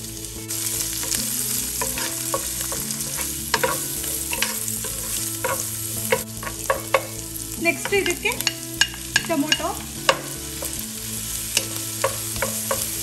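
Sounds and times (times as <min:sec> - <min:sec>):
onion sizzling in hot fat: 0:00.0 - 0:13.0
spatula scraping and tapping pan: 0:00.5 - 0:13.0.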